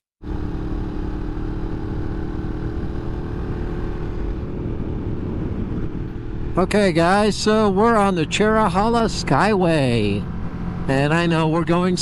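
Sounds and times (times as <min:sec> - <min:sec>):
motorcycle engine cruising: 0:00.2 - 0:12.0.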